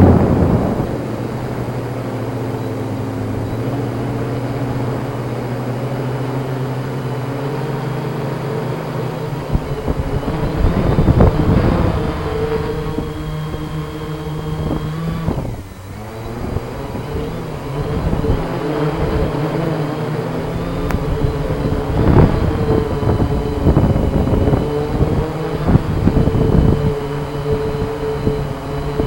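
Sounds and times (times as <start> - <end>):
quadcopter propellers droning: 0.0 - 29.0.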